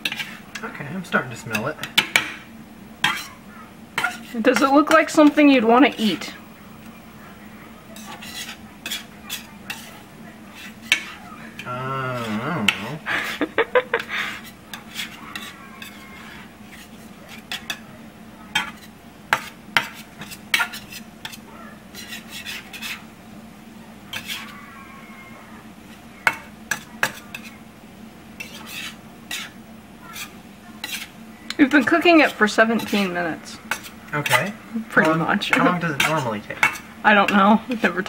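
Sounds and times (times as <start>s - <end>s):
metal spatula scraping a pan: 0.0s - 6.3s, 7.9s - 17.8s, 18.5s - 23.1s, 24.1s - 24.6s, 25.9s - 27.6s, 28.4s - 38.0s.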